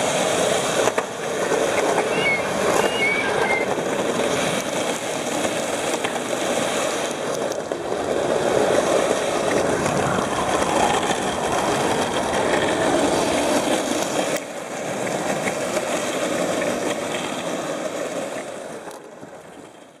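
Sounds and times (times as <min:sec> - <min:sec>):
longboard wheels rolling on concrete: 0:00.0 - 0:20.0.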